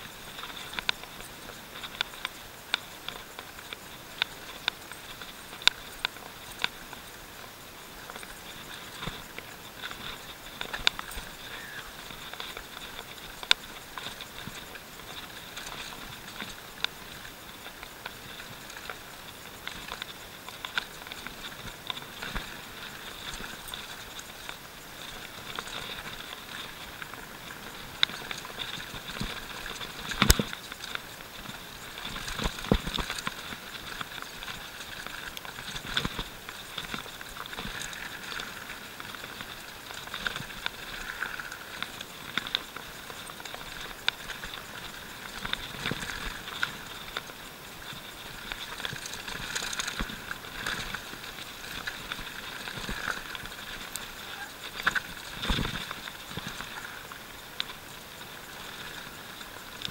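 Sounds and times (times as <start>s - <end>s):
bike rattling over bumps: 0.0s - 59.9s.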